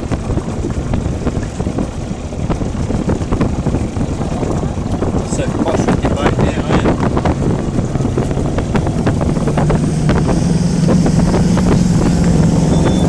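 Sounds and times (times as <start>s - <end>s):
motorboat engine running: 0.0s - 13.0s
wind buffeting microphone: 0.0s - 13.0s.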